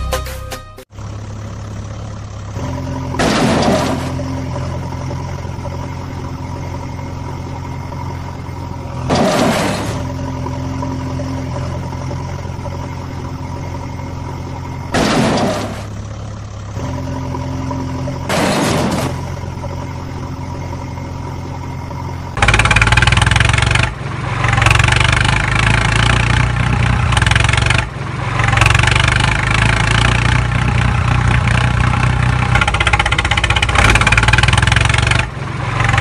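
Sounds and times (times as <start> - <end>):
vehicle engine idling: 0.9 - 36.0.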